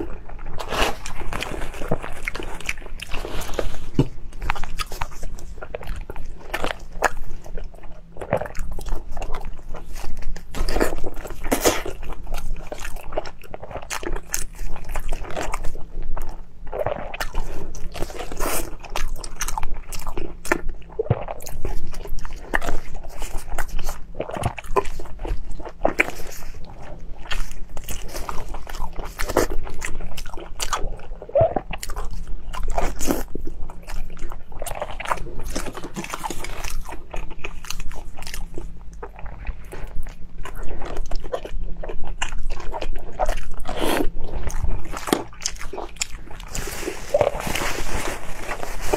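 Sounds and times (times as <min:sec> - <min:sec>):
biting and chewing meat: 0:00.0 - 0:48.9.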